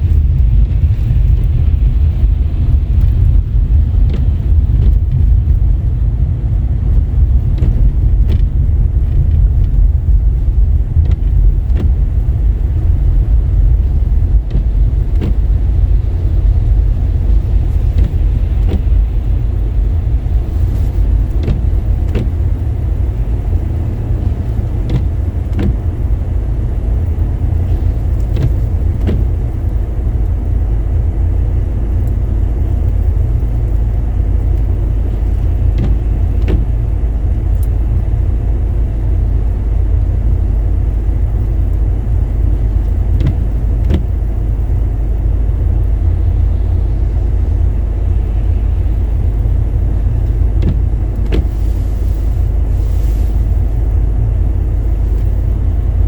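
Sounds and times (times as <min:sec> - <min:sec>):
car tyres on slushy road: 0:00.0 - 0:56.0.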